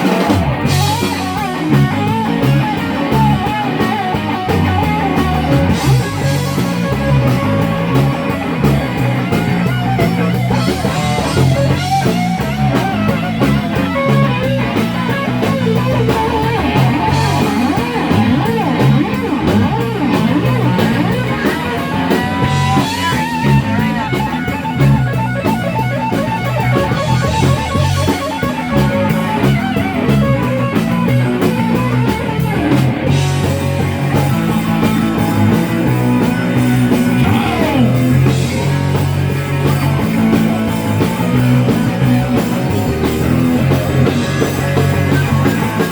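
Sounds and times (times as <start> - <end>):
bass guitar: 0.0 - 45.9
drum kit beat: 0.0 - 45.9
electric guitar with bending notes: 0.0 - 45.9.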